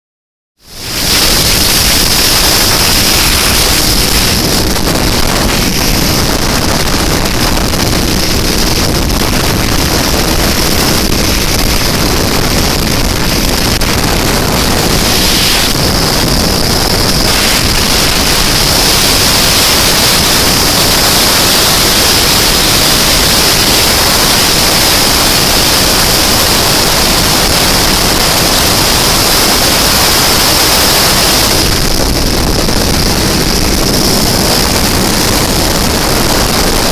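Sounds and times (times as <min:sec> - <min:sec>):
road and wind noise: 0:00.6 - 0:36.9
motorcycle engine at speed: 0:00.7 - 0:36.9.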